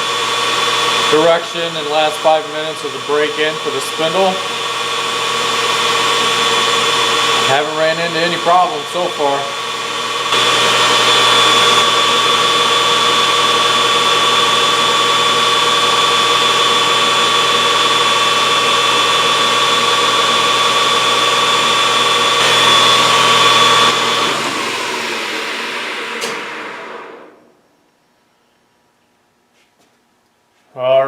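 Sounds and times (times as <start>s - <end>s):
metal lathe whining: 0.0s - 27.3s
lathe winding down: 0.0s - 27.6s.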